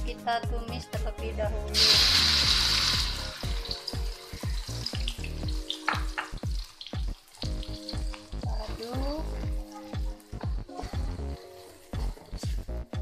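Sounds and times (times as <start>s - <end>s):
background music: 0.0s - 13.0s
spice paste sizzling in hot oil: 1.7s - 13.0s
oil popping and crackling: 1.8s - 13.0s.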